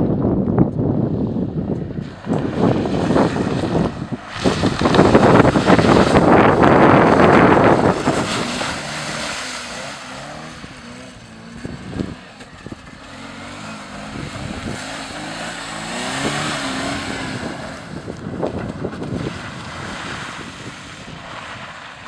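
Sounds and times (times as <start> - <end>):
car engine revving: 1.8 - 22.0
loud rushing noise: 2.5 - 22.0.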